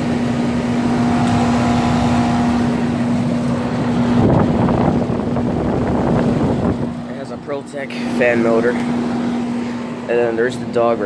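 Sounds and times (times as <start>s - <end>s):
air conditioner unit humming: 0.0s - 11.0s
condenser fan rushing: 0.0s - 11.0s.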